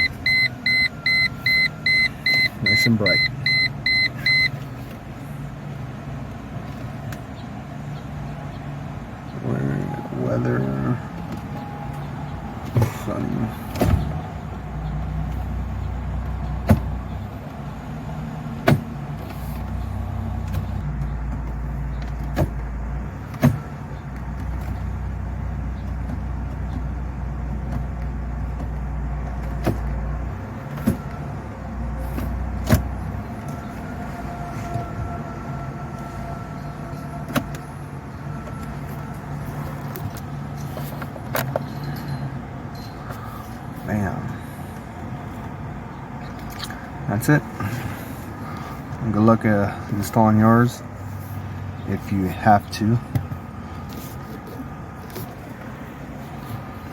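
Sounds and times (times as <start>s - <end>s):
car low rumble: 0.0s - 56.9s.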